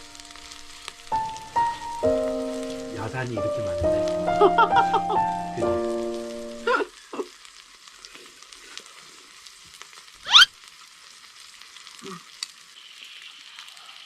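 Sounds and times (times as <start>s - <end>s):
pork sizzling on hot metal: 0.0s - 14.0s.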